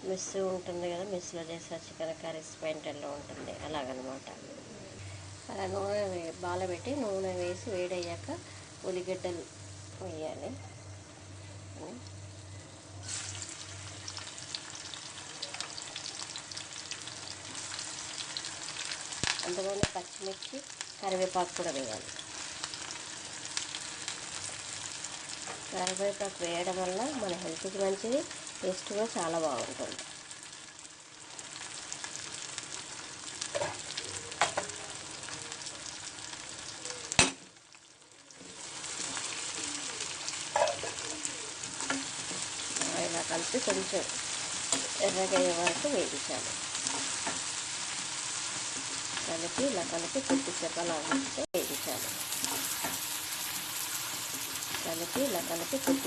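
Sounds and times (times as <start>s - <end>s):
onions sizzling in hot oil: 5.0s - 56.0s.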